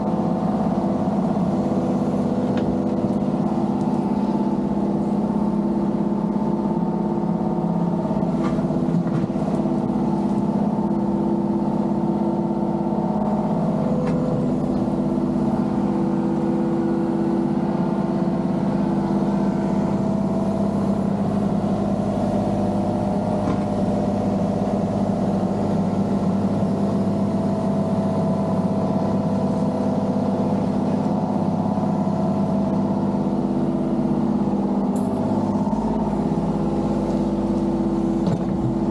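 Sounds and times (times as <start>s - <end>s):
diesel engine running at high revs: 0.0s - 38.9s.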